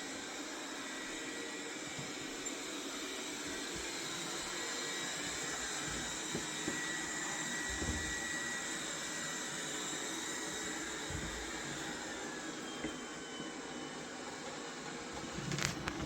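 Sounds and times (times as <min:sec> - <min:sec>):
robot vacuum cleaner whirring: 0:00.0 - 0:16.0.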